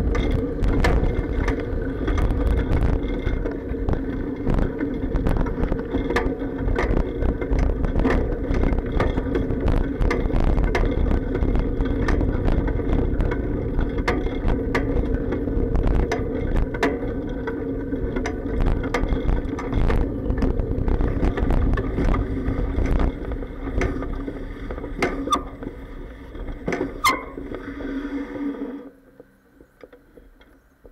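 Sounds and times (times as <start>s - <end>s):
sharp clacks and bumps: 0.0s - 27.6s
bicycle vibration rumble: 0.0s - 30.9s.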